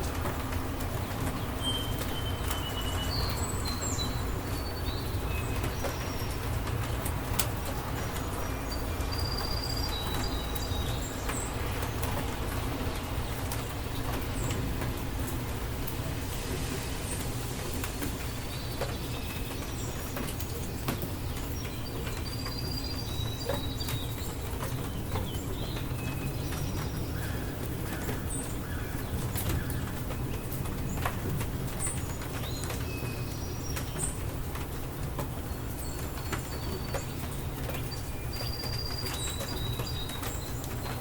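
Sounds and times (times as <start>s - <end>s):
birds chirping: 0.0s - 41.0s
rain falling: 0.0s - 41.0s.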